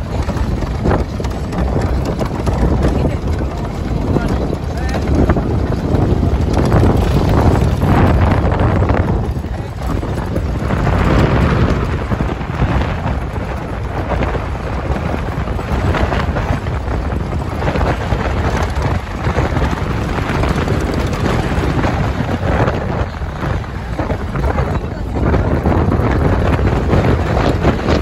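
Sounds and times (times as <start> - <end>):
vehicle running on gravel: 0.0 - 28.0
wind buffeting microphone: 0.0 - 28.0.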